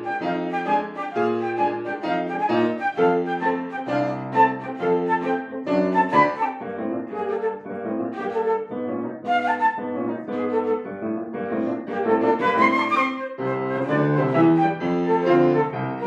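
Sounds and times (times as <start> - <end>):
piano accompaniment: 0.0 - 16.0
woodwind melody: 0.0 - 16.0.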